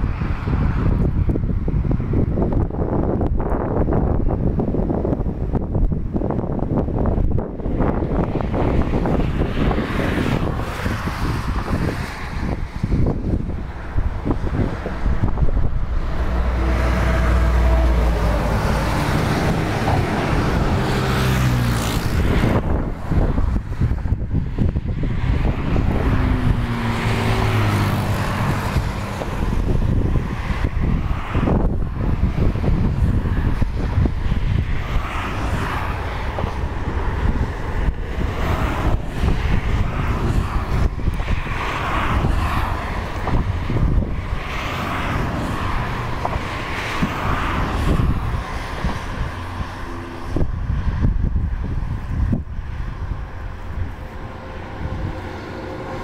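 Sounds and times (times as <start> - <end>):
vehicle engine hum: 0.0 - 56.0
wind buffeting microphone: 0.0 - 56.0.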